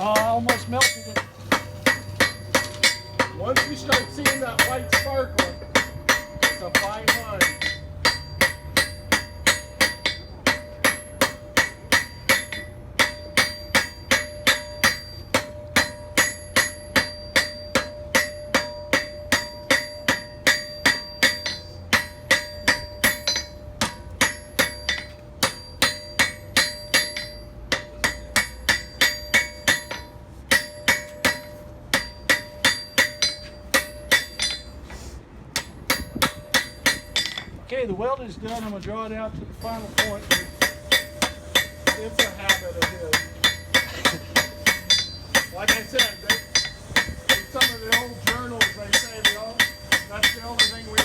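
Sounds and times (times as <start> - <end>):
anvil ringing: 0.0 - 34.9, 35.5 - 37.6, 39.6 - 51.0
hammer striking steel on anvil: 0.0 - 37.6, 39.6 - 51.0.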